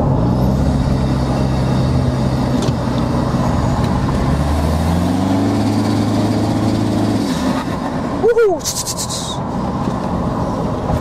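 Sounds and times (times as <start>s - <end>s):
diesel engine accelerating: 0.0s - 11.0s.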